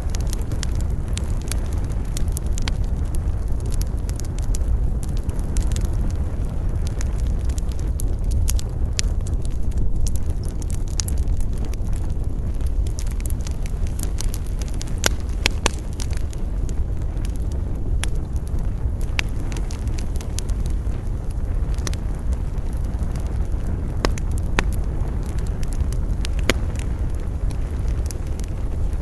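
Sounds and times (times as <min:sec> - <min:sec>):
campfire crackling and popping: 0:00.0 - 0:29.0
low wind rumble: 0:00.0 - 0:29.0.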